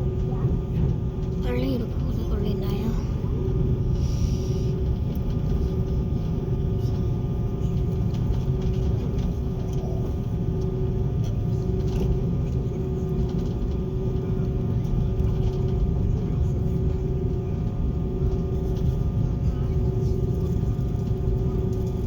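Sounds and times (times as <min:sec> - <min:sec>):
airliner cabin rumble: 0:00.0 - 0:22.0
constant whining tones: 0:00.0 - 0:22.0.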